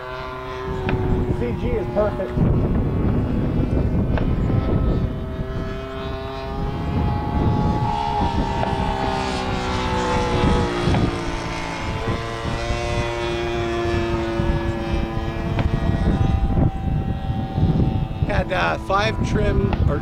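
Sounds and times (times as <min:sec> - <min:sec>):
model plane engine droning: 0:00.0 - 0:20.0.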